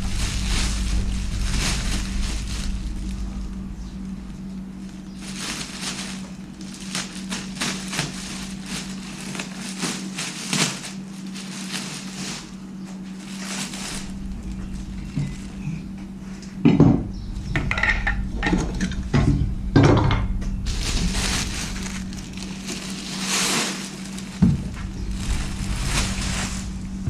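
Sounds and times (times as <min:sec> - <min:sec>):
packing material crackling: 0:00.0 - 0:16.0, 0:20.6 - 0:27.0
steady low hum: 0:00.0 - 0:27.0.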